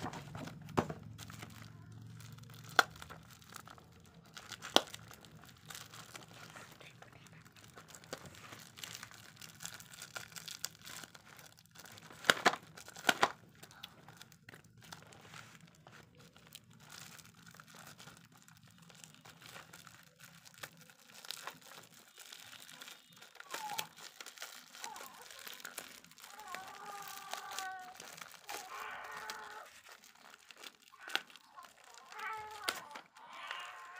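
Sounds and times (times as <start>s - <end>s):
bubble wrap crinkling: 0.0s - 33.9s
bubble wrap sharp crackles: 0.0s - 33.9s.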